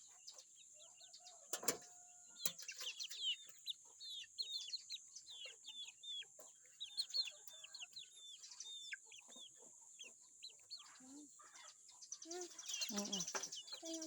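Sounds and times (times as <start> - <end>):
chickens clucking: 0.0 - 14.0
chicks peeping: 0.0 - 14.0.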